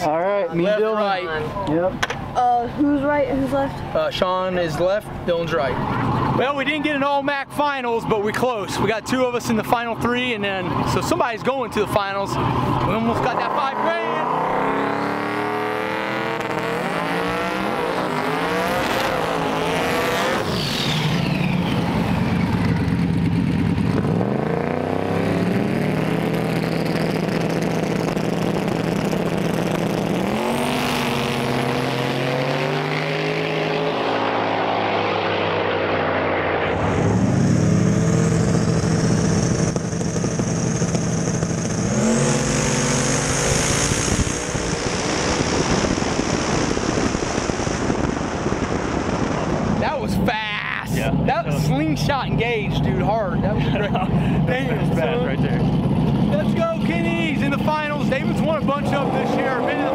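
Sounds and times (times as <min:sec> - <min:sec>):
drag race car engines revving: 0:03.0 - 0:59.9.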